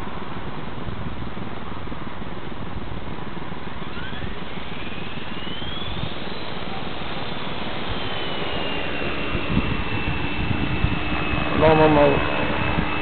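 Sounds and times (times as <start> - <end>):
constant rushing noise: 0.0 - 13.0
model helicopter rotor whine: 0.0 - 13.0.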